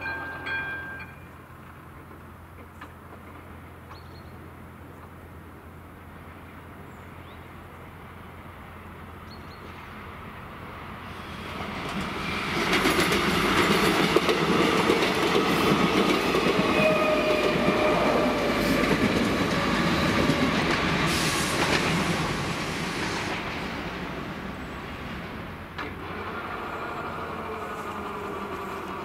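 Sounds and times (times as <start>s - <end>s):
train rumbling over rails: 0.0s - 29.0s.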